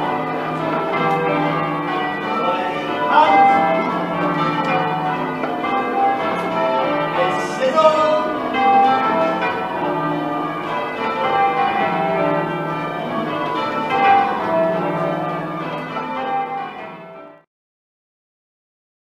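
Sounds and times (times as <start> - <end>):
church bells change ringing: 0.0 - 17.5.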